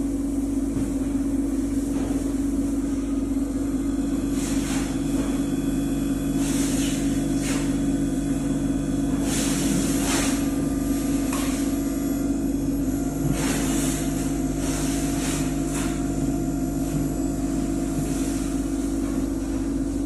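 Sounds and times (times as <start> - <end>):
grinder machine hum: 0.0 - 20.0.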